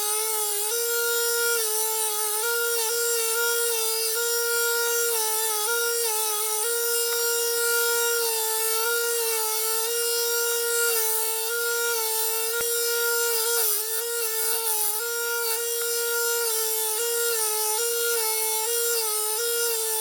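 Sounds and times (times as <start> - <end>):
blade rubbing on abrasive: 0.0 - 20.0
power tool motor whining: 0.0 - 20.0.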